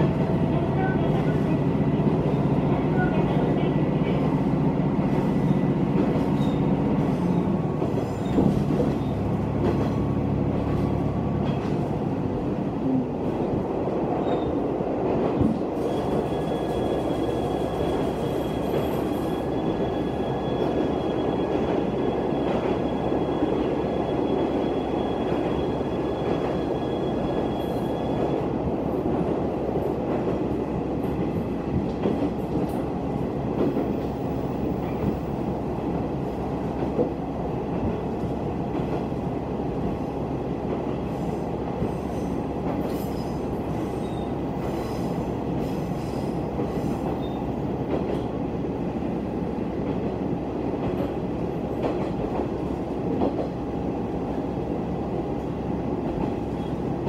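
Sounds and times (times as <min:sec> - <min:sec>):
diesel railcar engine drone: 0:00.0 - 0:57.0
wheels rumbling on rails: 0:00.0 - 0:57.0.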